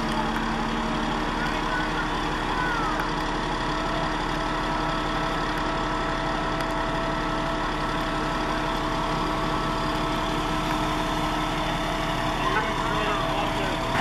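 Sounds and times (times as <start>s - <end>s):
fire truck engine idling: 0.0s - 14.0s.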